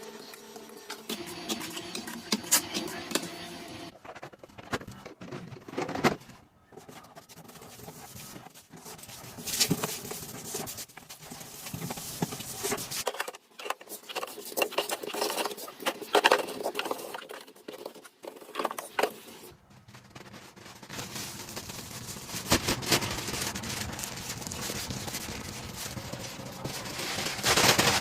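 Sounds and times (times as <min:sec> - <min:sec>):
packaging rustling: 0:03.8 - 0:28.0.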